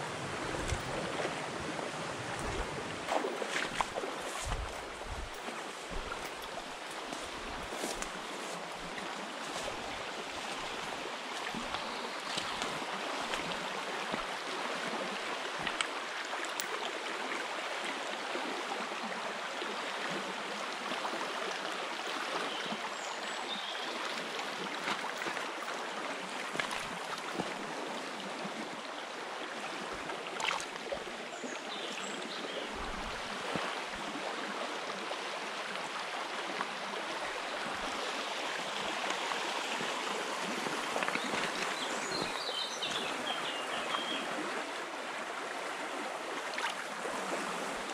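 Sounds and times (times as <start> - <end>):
stream rushing over stones: 0.0 - 47.9.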